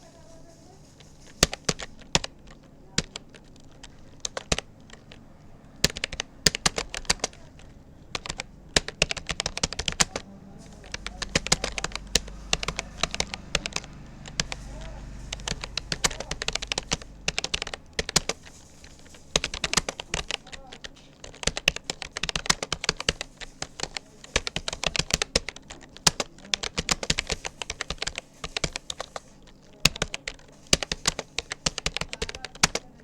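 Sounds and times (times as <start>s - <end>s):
keyboard typing clicks: 0.9s - 33.0s.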